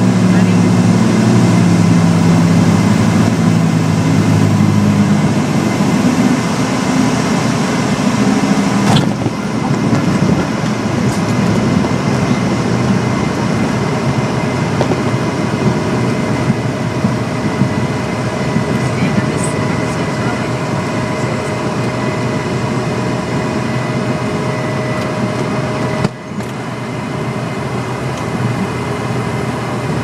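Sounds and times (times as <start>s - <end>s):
aircraft piston engines droning: 0.0s - 30.0s.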